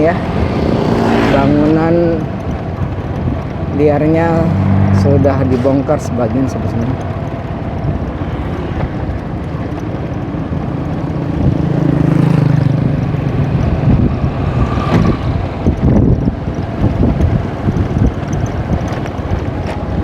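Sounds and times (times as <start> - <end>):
engine running with low rumble: 0.0 - 20.0.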